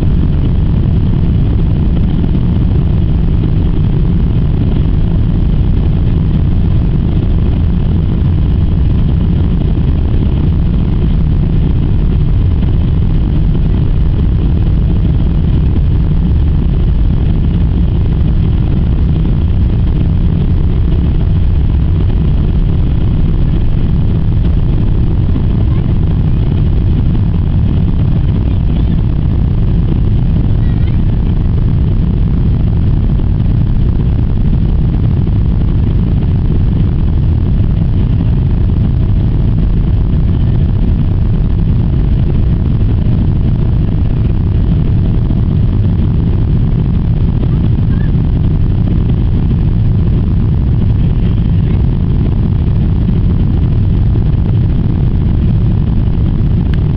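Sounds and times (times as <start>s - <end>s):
jet engine rumble in cabin: 0.0s - 56.9s.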